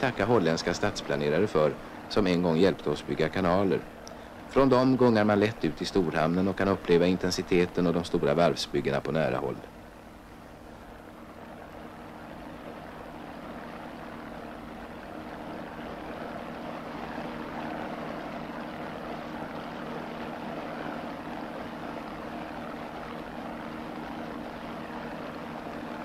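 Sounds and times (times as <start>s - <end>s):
boat engine drone: 0.0s - 26.0s.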